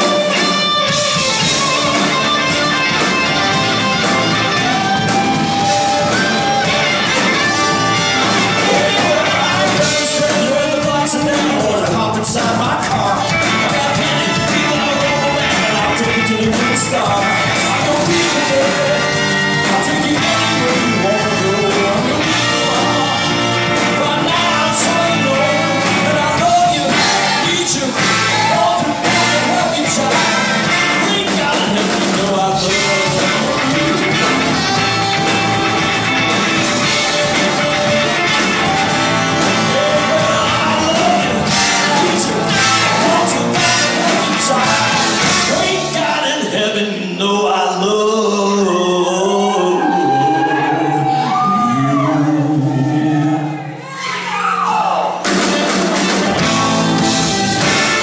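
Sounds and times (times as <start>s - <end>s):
rock band with horns playing live: 0.0s - 58.0s
singing: 4.0s - 58.0s.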